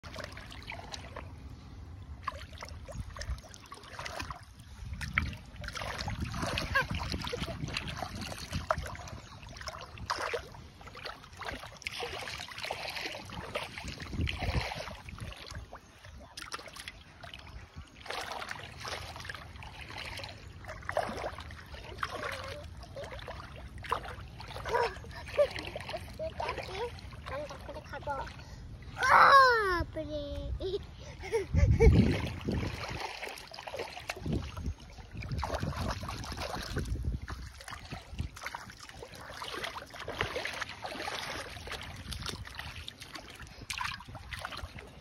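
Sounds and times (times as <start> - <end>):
shallow water splashing: 0.0 - 29.5, 31.2 - 45.0.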